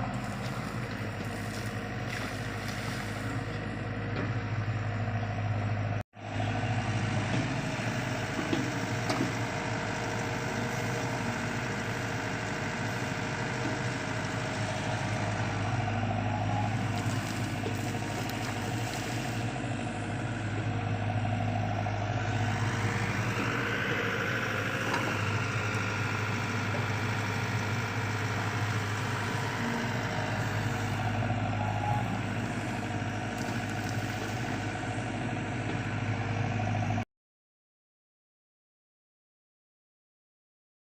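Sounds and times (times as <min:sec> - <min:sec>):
excavator diesel engine humming: 0:00.0 - 0:37.0.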